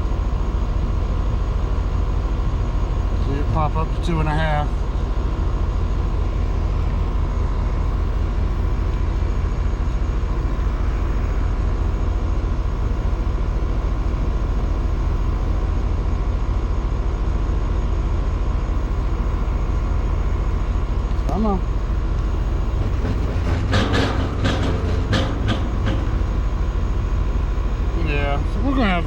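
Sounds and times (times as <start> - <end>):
air conditioner humming: 0.0 - 16.6, 18.4 - 29.0
fan motor slowing down: 0.0 - 29.0.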